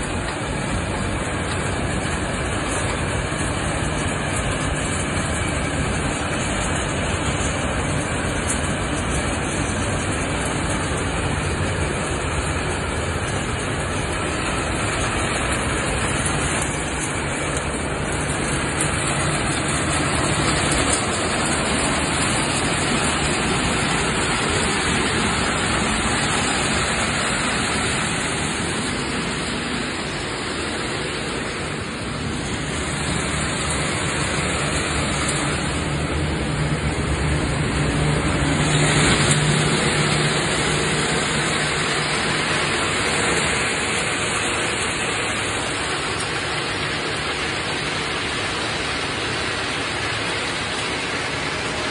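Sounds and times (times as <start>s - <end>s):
machinery noise: 0.0s - 51.9s.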